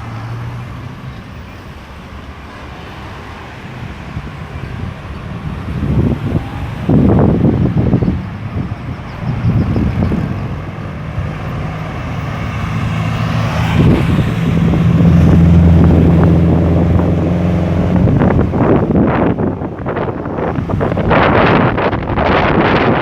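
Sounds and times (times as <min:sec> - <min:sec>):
road traffic passing: 0:00.0 - 0:23.0
vehicle engine drone: 0:00.0 - 0:23.0.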